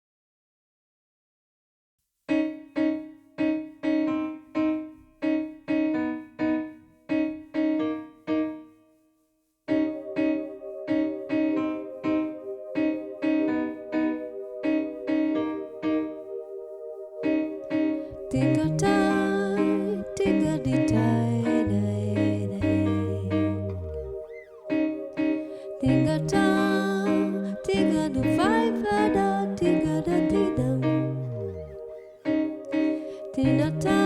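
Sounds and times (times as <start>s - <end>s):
electric piano repeated notes: 2.3s - 9.0s, 9.7s - 34.0s
held keyboard chords: 2.4s - 8.8s, 9.7s - 34.0s.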